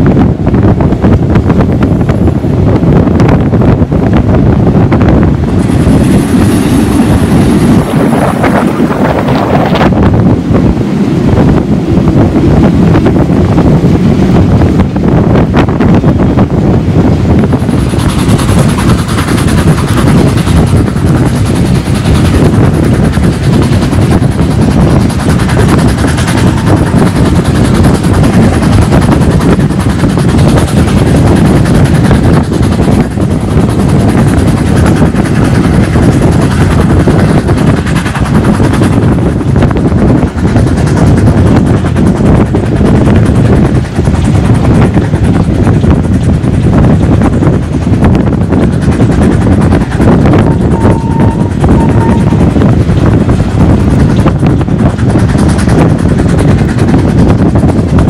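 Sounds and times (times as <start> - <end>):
train running on rails: 0.0 - 58.0
wind buffeting microphone: 0.0 - 58.0.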